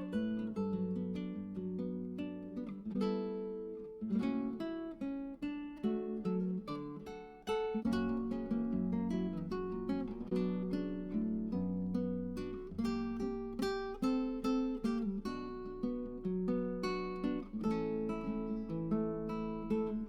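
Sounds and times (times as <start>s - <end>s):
acoustic guitar picked and strummed: 0.0s - 20.0s.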